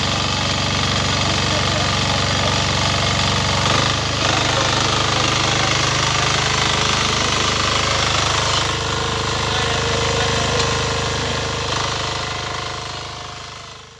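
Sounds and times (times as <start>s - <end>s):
power weeder engine running: 0.0s - 13.9s.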